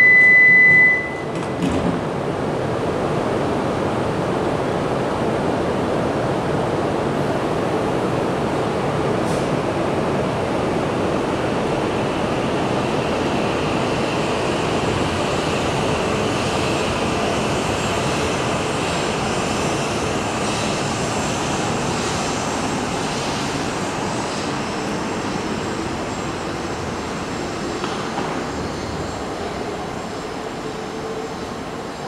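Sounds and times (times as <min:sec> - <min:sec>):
electric train rushing past: 0:06.0 - 0:32.0.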